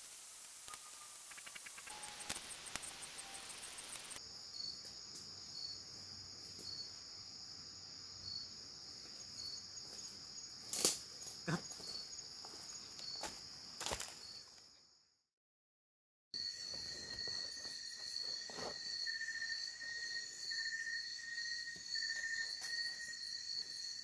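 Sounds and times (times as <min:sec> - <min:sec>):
jungle insects droning: 0:00.0 - 0:15.0, 0:16.4 - 0:24.0.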